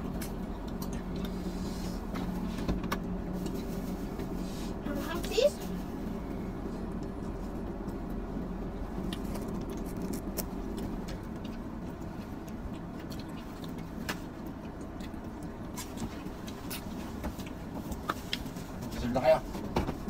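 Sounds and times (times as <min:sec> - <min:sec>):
car cabin engine hum: 0:00.0 - 0:20.0.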